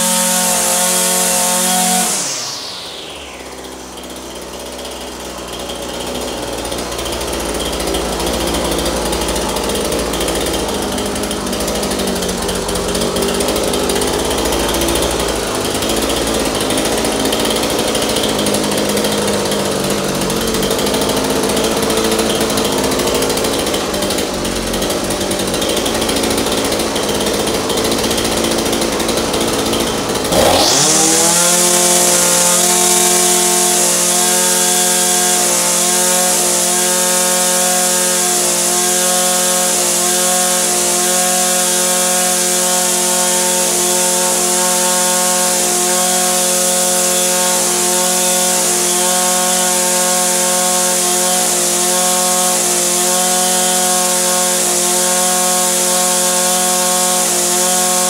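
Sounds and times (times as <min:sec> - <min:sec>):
string trimmer engine idling and revving: 0:00.0 - 0:58.0.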